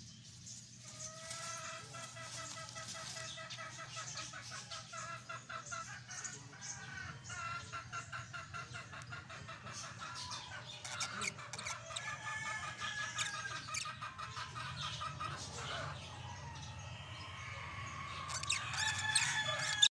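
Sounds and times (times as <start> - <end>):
budgerigars chattering: 1.0 - 19.9.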